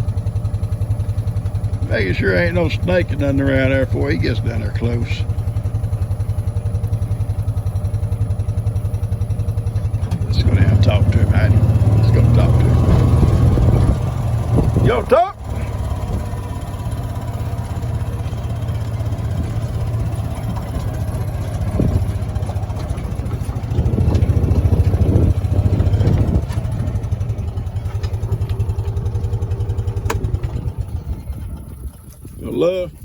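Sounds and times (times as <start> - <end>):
vehicle engine putter: 0.0 - 33.0.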